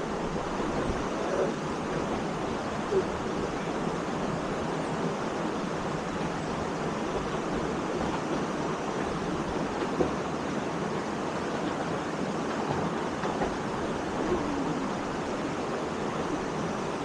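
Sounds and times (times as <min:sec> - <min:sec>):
waterfall roaring into pool: 0:00.0 - 0:17.0.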